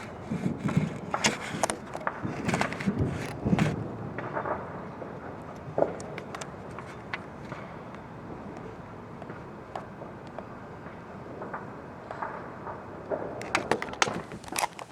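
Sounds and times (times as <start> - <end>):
fireworks popping and crackling: 0.0 - 14.9.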